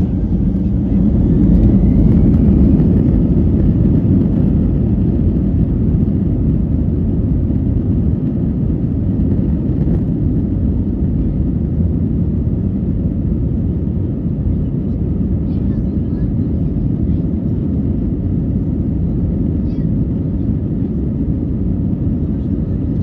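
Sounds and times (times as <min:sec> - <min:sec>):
low rumble inside aircraft cabin: 0:00.0 - 0:23.0.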